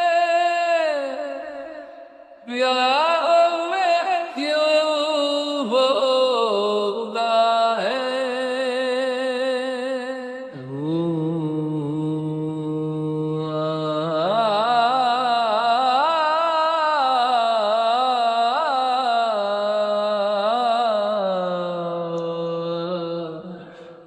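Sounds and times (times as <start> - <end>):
wordless voice singing: 0.0 - 24.0.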